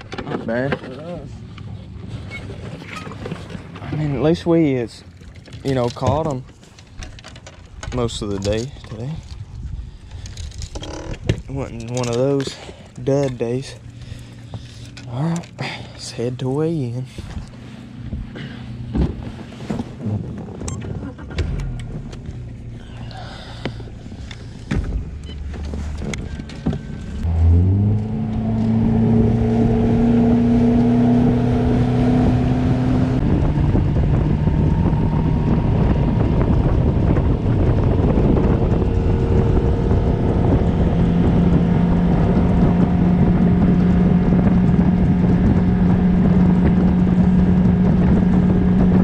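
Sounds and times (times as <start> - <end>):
wind: 0.0 - 49.0
outboard motor revving: 8.0 - 49.0.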